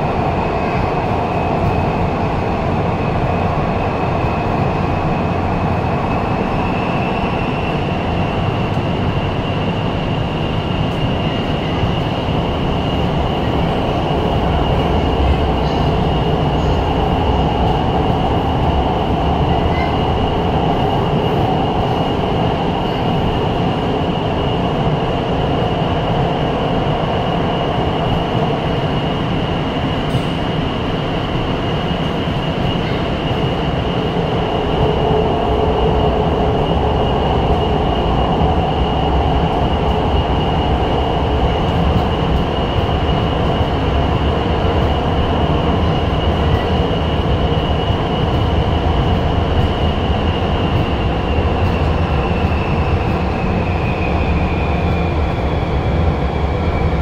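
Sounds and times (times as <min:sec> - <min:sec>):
high-pitched train whine: 0:00.0 - 0:57.0
wheels rumbling on rails: 0:00.0 - 0:57.0.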